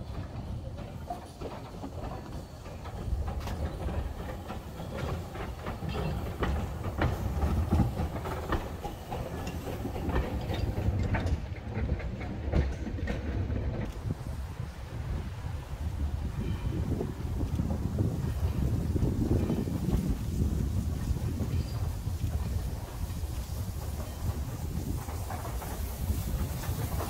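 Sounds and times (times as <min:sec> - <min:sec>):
steam locomotive rumble: 0:00.0 - 0:27.0
wheels clicking on track: 0:00.0 - 0:27.0.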